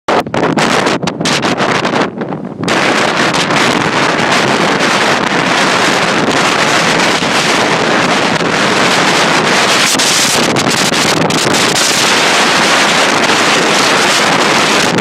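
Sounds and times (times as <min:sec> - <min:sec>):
strong wind on microphone: 0:00.1 - 0:15.0
waves breaking on shore: 0:02.7 - 0:15.0.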